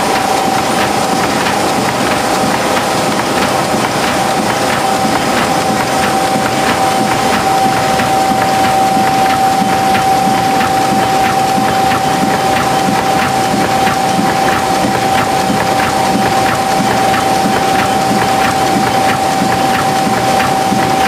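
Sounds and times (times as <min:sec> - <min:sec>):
coating machine running: 0:00.0 - 0:21.0
rapid clicking of sheets feeding: 0:00.0 - 0:21.0.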